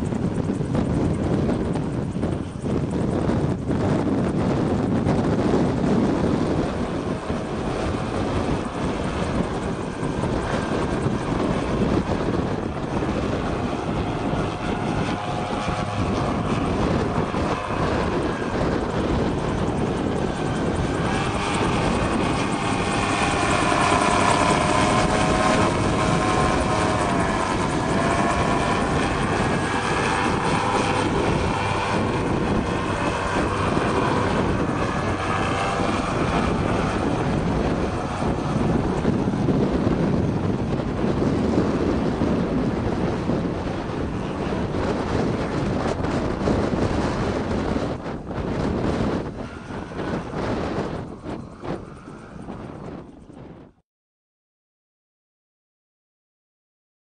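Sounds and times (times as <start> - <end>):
gyrocopter engine and propeller: 0.0 - 53.8
whining engine tone: 0.0 - 53.8.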